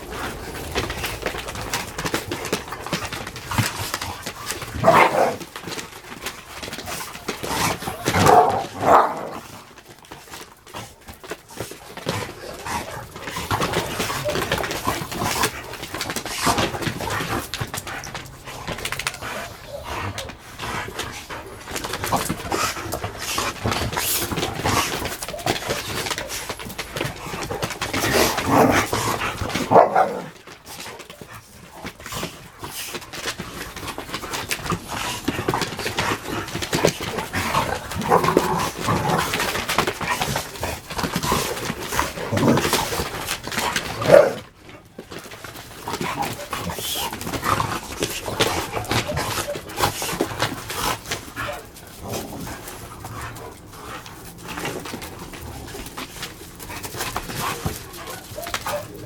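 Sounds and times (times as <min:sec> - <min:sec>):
dogs barking: 0:00.0 - 0:32.8, 0:33.5 - 0:59.0
dogs scuffling: 0:00.0 - 0:59.0
dogs whimpering: 0:00.0 - 0:59.0.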